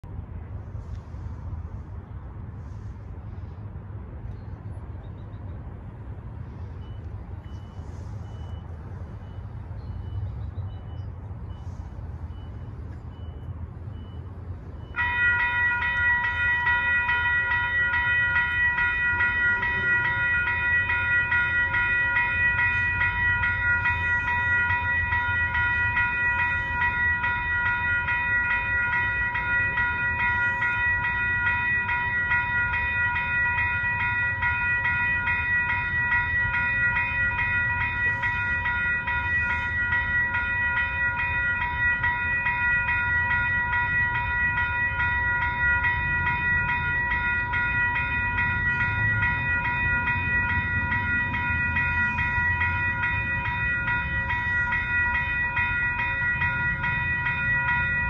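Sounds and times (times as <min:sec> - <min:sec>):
railroad crossing bells ringing: 0:00.0 - 0:58.0.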